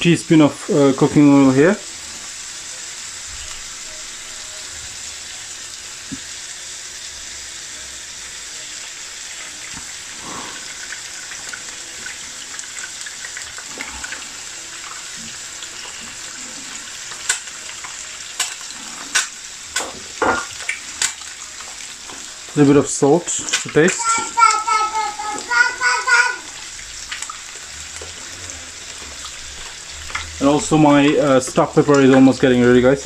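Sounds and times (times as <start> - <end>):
egg frying in oil: 0.0 - 33.0.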